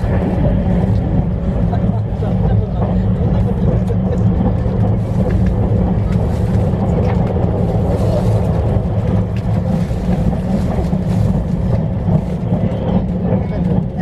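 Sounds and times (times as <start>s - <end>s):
train rumble from inside: 0.0s - 14.0s.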